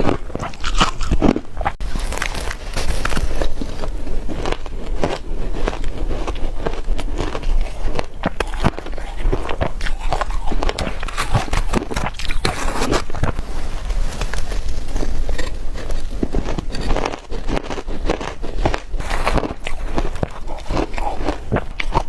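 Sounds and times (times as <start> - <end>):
ice crunching being chewed: 0.0 - 22.0.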